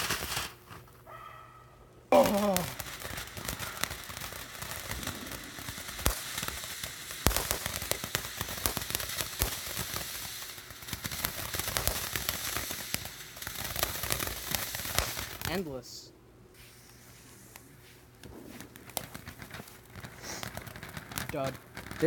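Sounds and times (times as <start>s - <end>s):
firework crackling: 0.0s - 1.0s, 2.1s - 16.0s, 16.6s - 22.0s.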